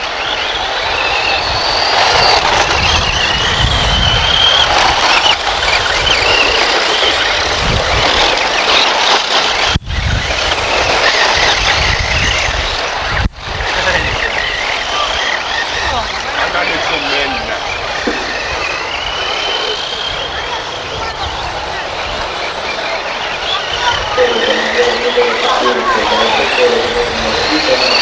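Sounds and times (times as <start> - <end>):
rc car motor whines: 0.0 - 24.2.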